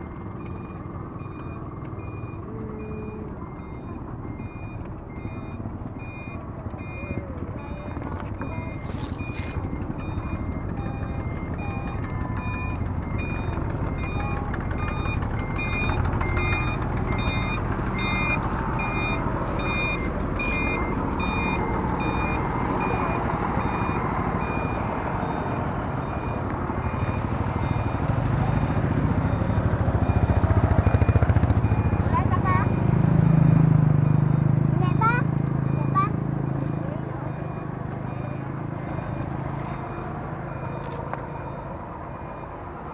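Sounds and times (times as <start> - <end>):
truck engine rumble: 0.0 - 42.9
truck reversing alarm beeping: 0.0 - 42.9.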